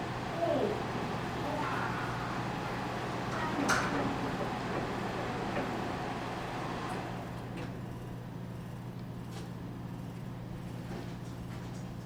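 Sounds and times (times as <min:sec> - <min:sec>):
indistinct room noise: 0:00.0 - 0:12.0.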